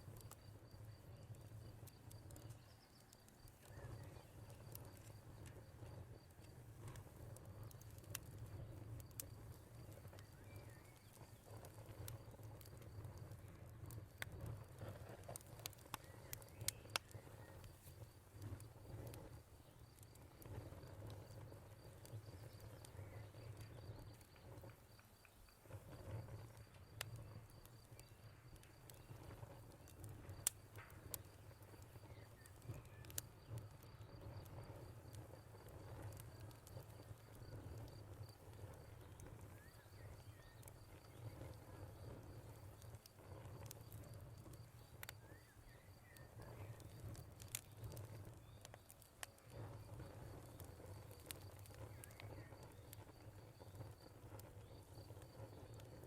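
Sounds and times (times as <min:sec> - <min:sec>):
cricket chirping: 0:00.0 - 0:56.0
wood fire crackling: 0:00.0 - 0:56.0.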